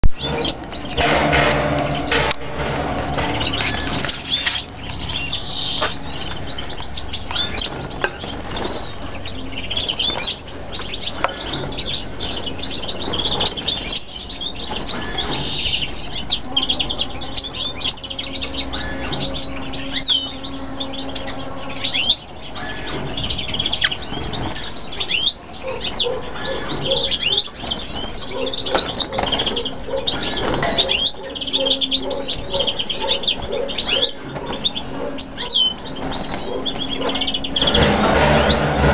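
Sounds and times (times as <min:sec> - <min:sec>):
caged birds chirping: 0:00.0 - 0:38.9.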